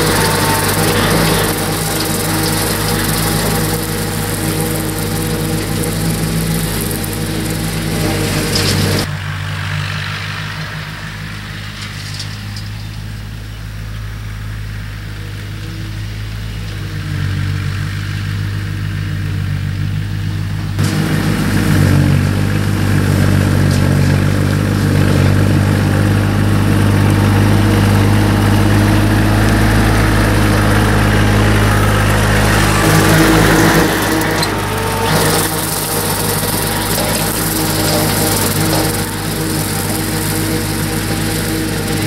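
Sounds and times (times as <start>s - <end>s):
rotary mower cutting grass: 0.0s - 42.0s
tractor diesel engine running: 0.0s - 42.0s.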